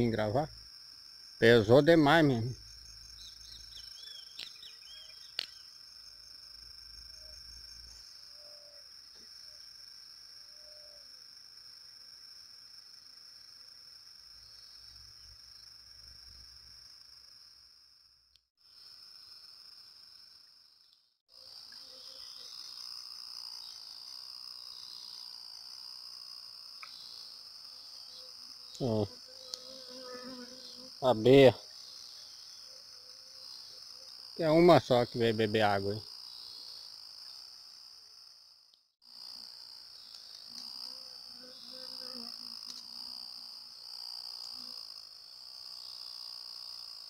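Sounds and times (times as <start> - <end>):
crickets trilling: 0.0 - 47.0
low pulsing insect chorus: 0.0 - 47.0.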